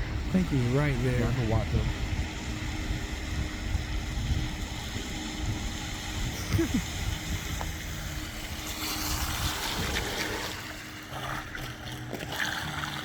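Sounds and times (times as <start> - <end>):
wind on microphone: 0.0 - 10.6
electric boat motor hum: 0.0 - 13.0
water ambience: 0.0 - 13.0.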